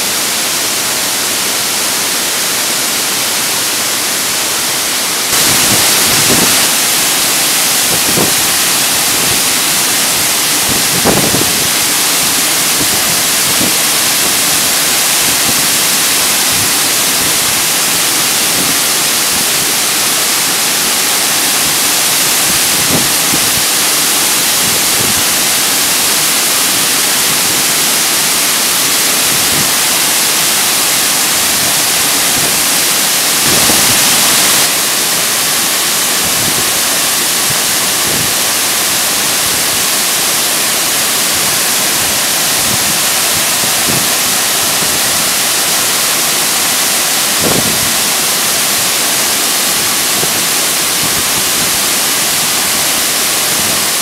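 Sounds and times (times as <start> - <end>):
waterfall crashing onto rocks: 0.0 - 54.0.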